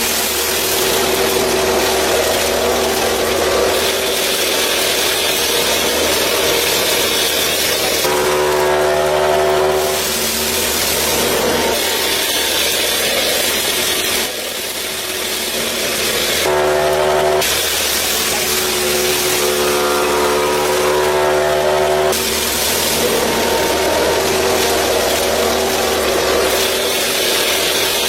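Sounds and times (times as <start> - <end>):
small motor and gears grinding: 0.0 - 28.0
buzzy horn-like tone: 0.7 - 12.9, 16.4 - 28.0.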